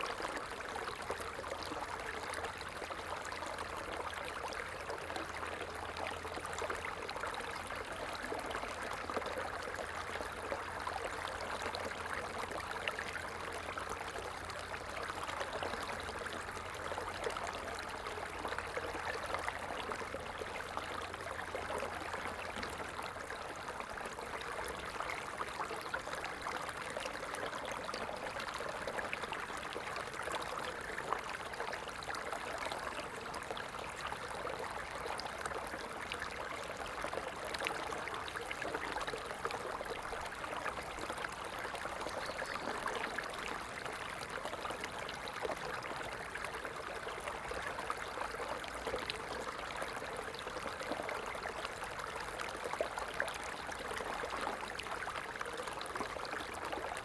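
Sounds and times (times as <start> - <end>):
small stream babbling: 0.0 - 57.0.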